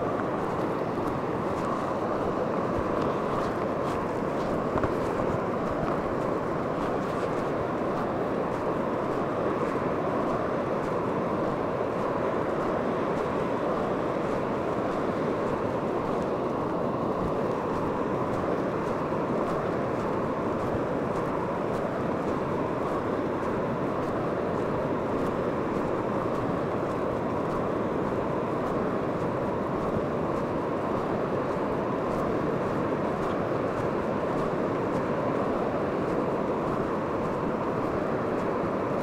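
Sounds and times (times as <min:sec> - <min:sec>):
ocean surf: 0:00.0 - 0:39.0
wind: 0:00.0 - 0:39.0.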